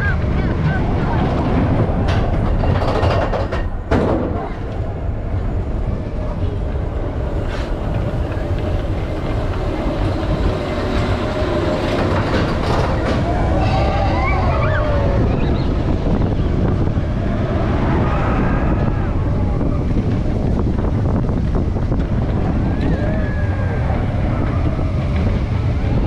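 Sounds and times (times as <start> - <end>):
roller coaster train rumbling: 0.0 - 26.0.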